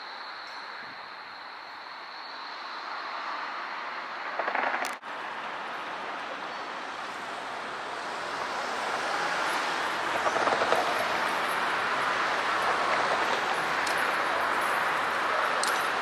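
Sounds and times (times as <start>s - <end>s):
tram rolling along track: 0.0s - 16.0s.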